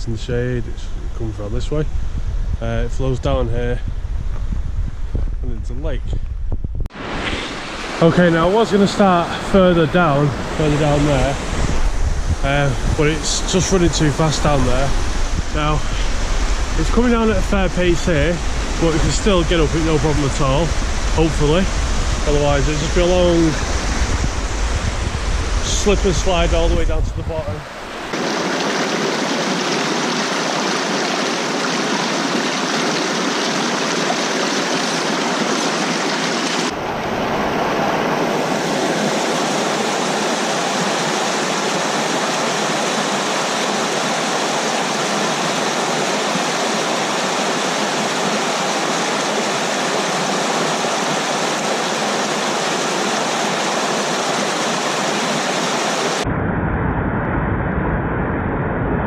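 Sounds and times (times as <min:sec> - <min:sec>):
waterfall rushing: 0:06.9 - 0:56.2.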